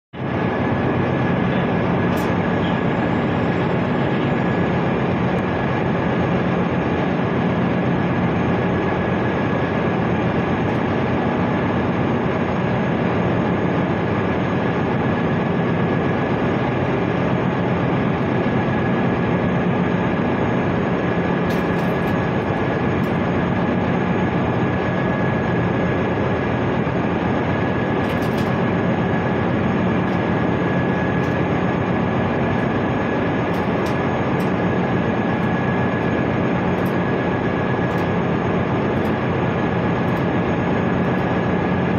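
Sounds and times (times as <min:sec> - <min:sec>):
thin high whine: 0:00.2 - 0:14.4, 0:16.4 - 0:41.9
ship machinery droning: 0:00.2 - 0:41.9.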